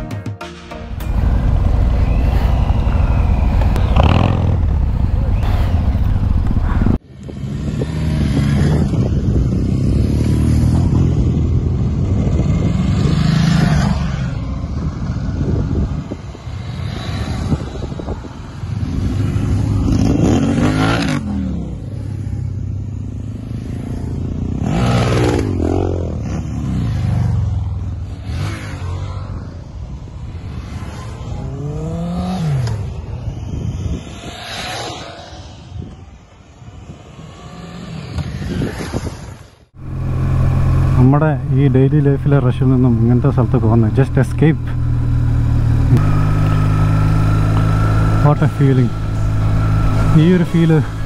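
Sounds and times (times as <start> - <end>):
motorcycles riding past: 1.1 - 51.0.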